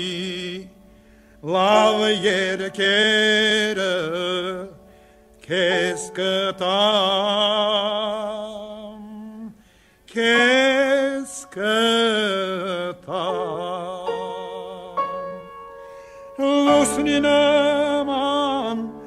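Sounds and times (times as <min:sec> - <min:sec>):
man singing with vibrato: 0:00.0 - 0:19.0.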